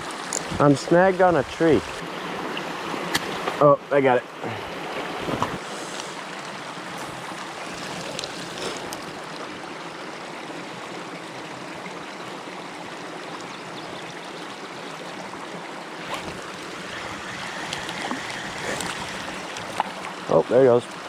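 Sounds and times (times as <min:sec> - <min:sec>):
water running over dam: 0:00.0 - 0:21.0.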